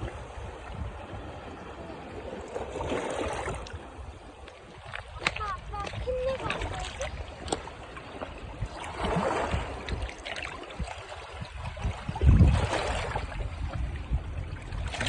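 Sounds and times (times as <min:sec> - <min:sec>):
sea water splashing: 0:00.0 - 0:15.0
wind rumbling on microphone: 0:00.0 - 0:15.0.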